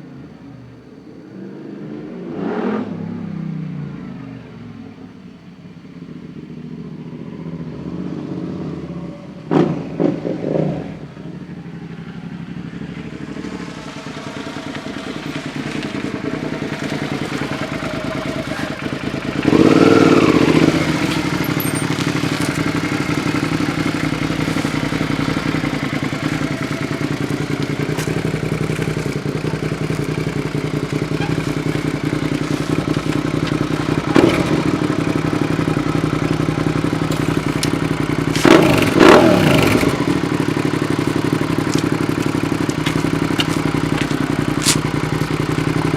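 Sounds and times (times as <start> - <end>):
engine rev: 0.0 - 45.9
motorcycle engine running: 1.8 - 45.9.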